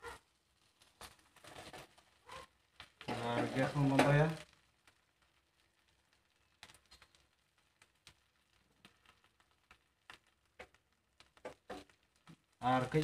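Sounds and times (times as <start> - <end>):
faint ticks and crackles: 0.0 - 13.0.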